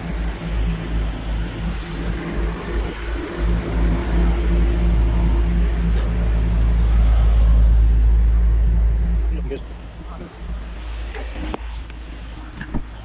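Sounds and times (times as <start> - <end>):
low mechanical hum: 0.0 - 13.0
wind rumble on microphone: 0.0 - 13.0.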